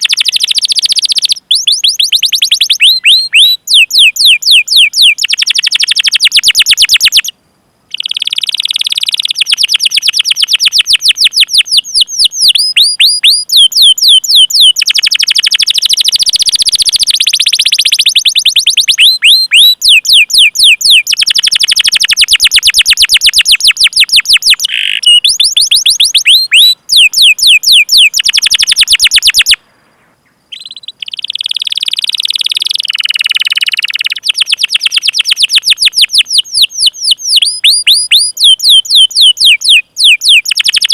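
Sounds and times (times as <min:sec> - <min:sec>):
canary singing rolling trills: 0:00.0 - 0:07.3, 0:07.9 - 0:29.6, 0:30.2 - 0:40.9.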